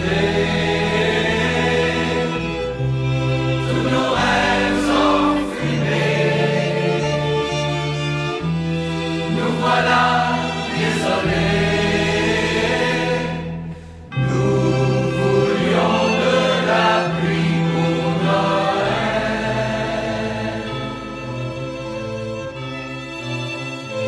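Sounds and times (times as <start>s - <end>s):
choir-like voices: 0.0s - 22.4s
steady bass line: 0.0s - 24.0s.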